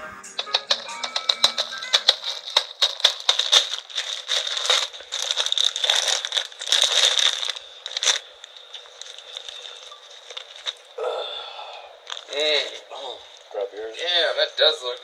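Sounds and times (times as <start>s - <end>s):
snack bag crinkling: 0.4s - 11.0s, 11.7s - 13.5s.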